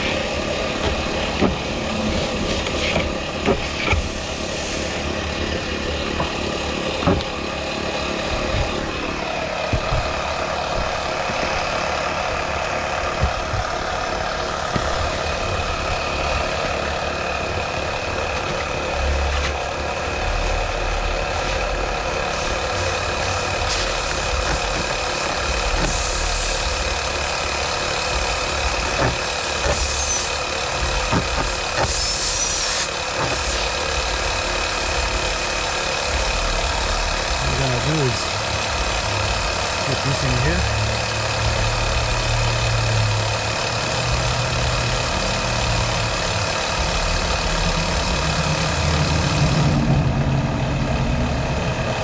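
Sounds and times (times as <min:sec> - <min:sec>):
air compressor running: 0:00.0 - 0:52.0.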